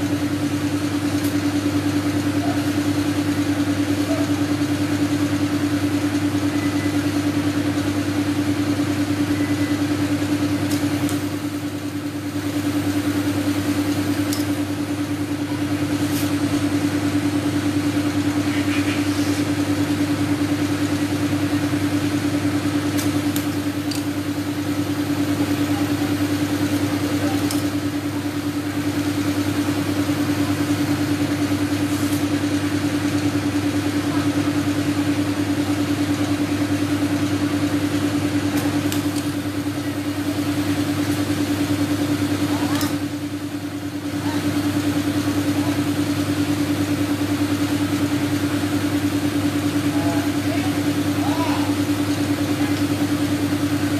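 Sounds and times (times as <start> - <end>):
air compressor humming: 0.0 - 53.9.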